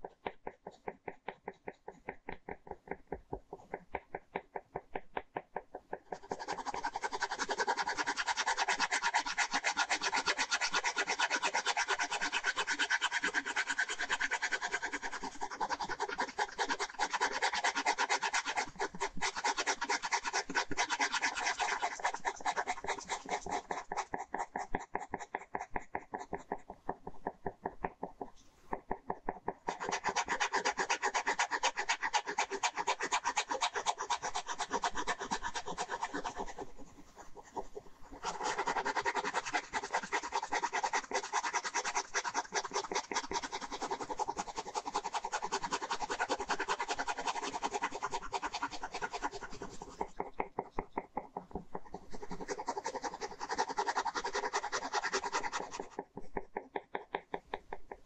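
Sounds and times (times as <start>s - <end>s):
pen scratching on paper: 0.0s - 58.0s.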